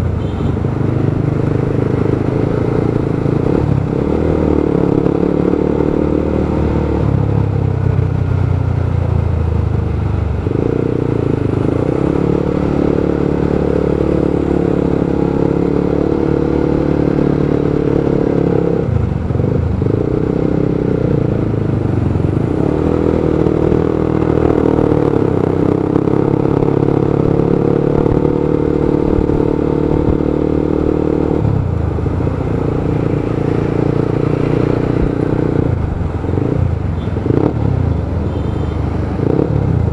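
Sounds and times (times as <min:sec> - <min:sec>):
road traffic noise: 0:00.0 - 0:39.9
motorcycle engine revving: 0:00.2 - 0:07.6, 0:10.4 - 0:39.9.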